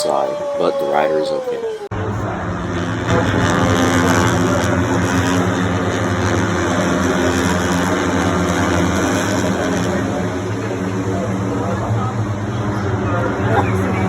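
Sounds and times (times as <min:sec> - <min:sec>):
engine running low drone: 0:00.0 - 0:14.0.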